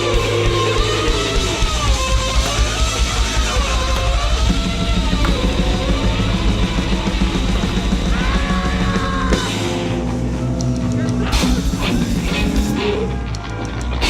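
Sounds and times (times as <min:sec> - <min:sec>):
distorted noise music: 0:00.0 - 0:14.0.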